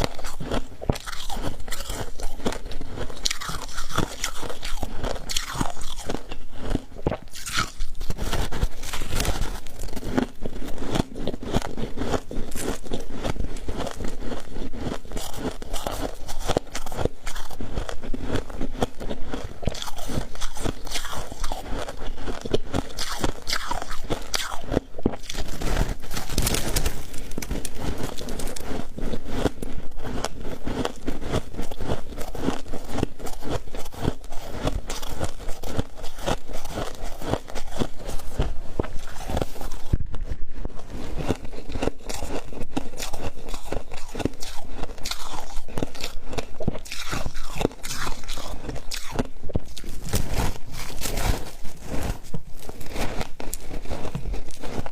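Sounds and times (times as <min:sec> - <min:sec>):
frost being chewed crunching: 0:00.0 - 0:54.9.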